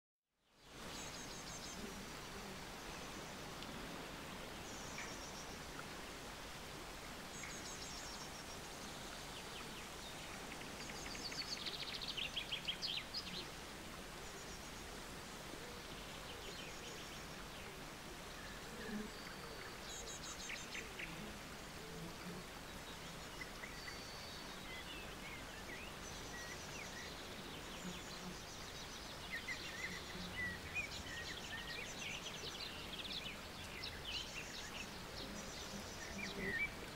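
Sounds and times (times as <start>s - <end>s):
soft outdoor hiss: 0.3s - 36.9s.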